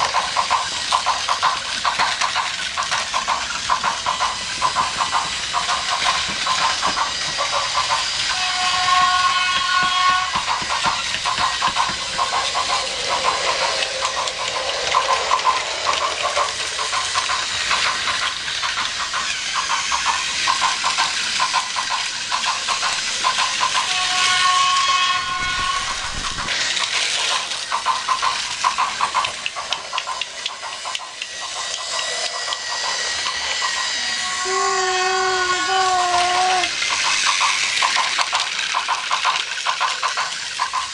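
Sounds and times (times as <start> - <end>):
toy train motors whirring: 0.0 - 40.9
wheels clicking over track: 0.0 - 40.9.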